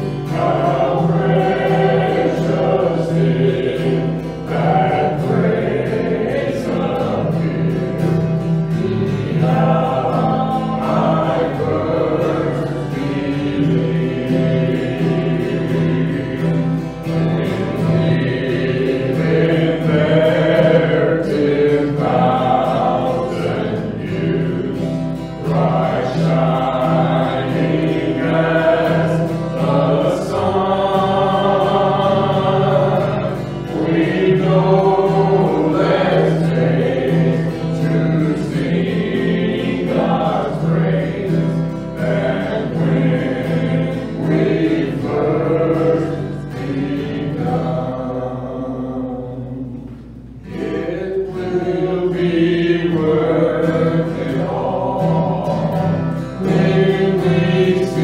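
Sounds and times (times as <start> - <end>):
strummed acoustic guitar: 0.0 - 58.0
voices singing a hymn: 0.0 - 58.0.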